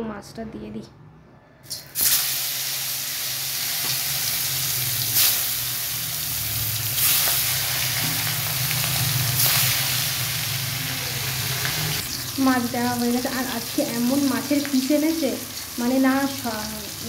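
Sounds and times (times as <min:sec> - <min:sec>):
fish sizzling in hot oil: 0:01.7 - 0:17.0.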